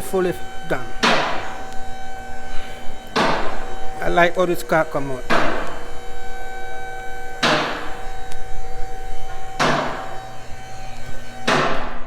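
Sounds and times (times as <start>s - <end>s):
ringing music chords: 0.0s - 11.8s.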